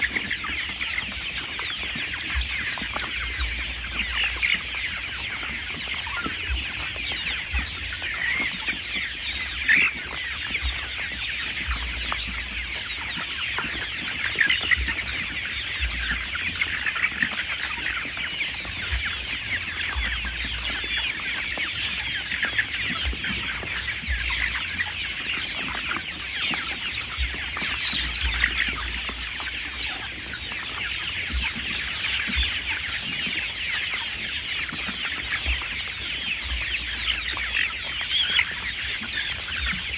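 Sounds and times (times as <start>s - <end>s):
chickens peeping and clucking: 0.0s - 39.9s
low bumps: 2.2s - 17.2s, 17.8s - 34.5s, 35.3s - 37.8s.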